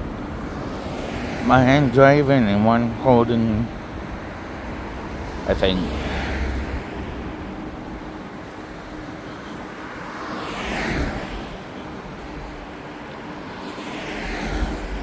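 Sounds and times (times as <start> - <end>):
tyre and wind road noise: 0.0 - 15.0.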